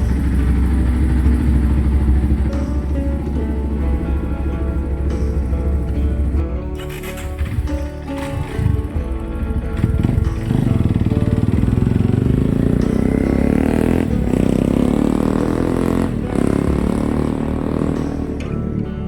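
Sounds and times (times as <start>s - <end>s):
dirt bike engine under throttle: 0.0s - 18.4s.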